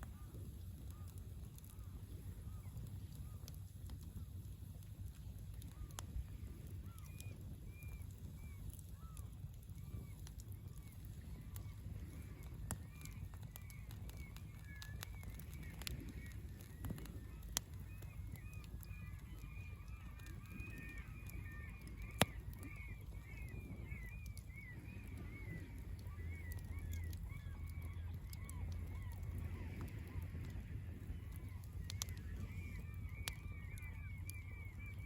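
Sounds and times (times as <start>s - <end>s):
campfire popping: 0.0s - 35.0s
flock of birds chattering: 0.1s - 35.0s.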